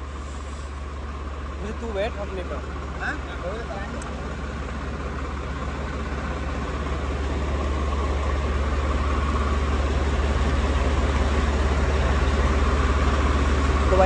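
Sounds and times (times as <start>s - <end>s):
tractor diesel engine idling: 0.0s - 14.0s.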